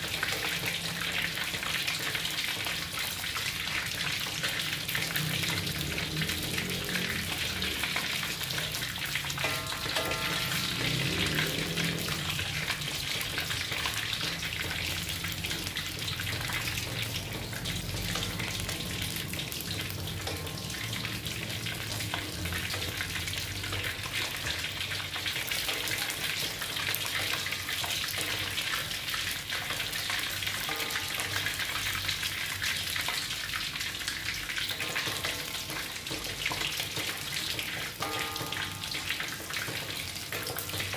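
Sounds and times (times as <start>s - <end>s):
meat deep-frying in hot oil: 0.0s - 40.9s.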